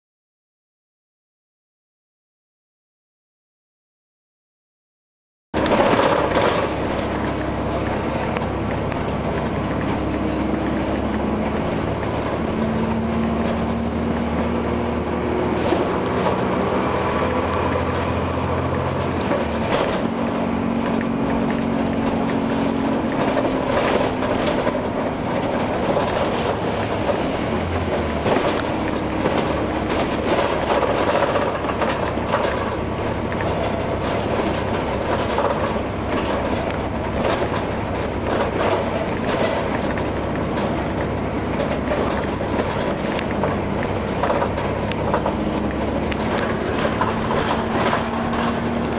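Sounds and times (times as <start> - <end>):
bus engine running: 5.6 - 48.9.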